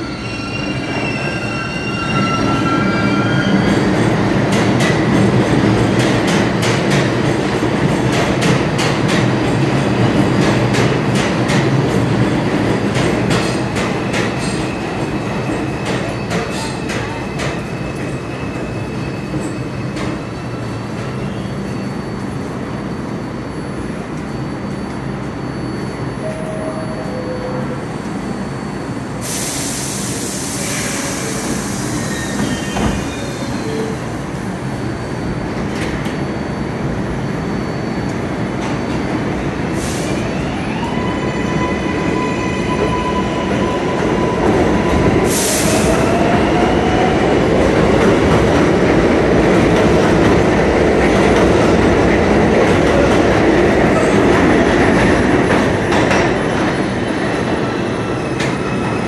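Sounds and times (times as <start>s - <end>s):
train wheels rumbling and squealing: 0.0s - 59.0s.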